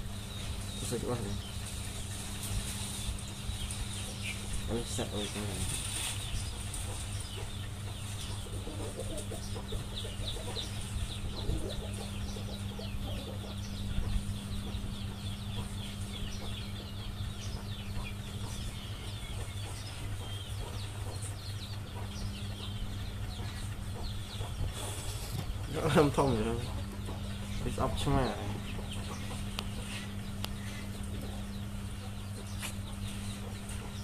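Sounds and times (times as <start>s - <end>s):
birds chirping: 0.0s - 34.0s
steady low hum: 0.0s - 34.0s.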